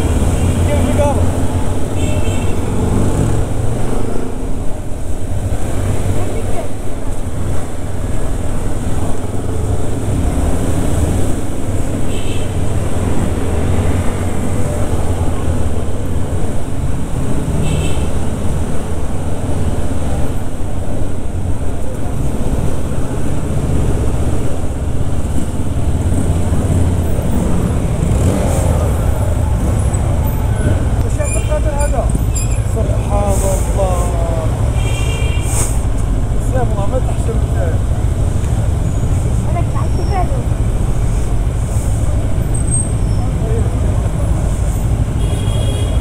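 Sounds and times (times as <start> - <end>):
street traffic: 0.0 - 46.0.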